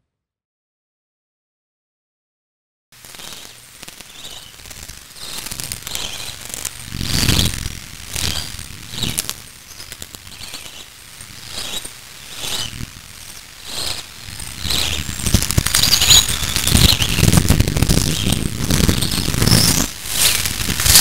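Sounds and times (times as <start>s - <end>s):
scratchy crackling noise with rapid clicks: 3.0s - 21.0s.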